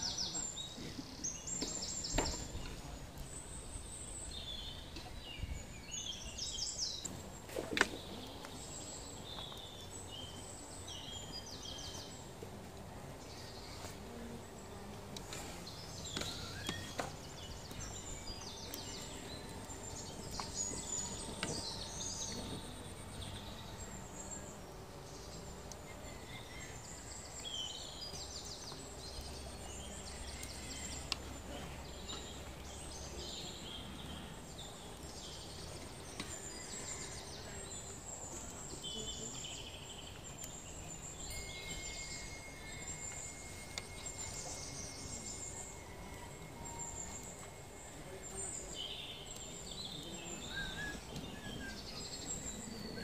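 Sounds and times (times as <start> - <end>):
faint outdoor hiss: 0.0 - 53.0
small birds chirping and trilling: 0.0 - 53.0.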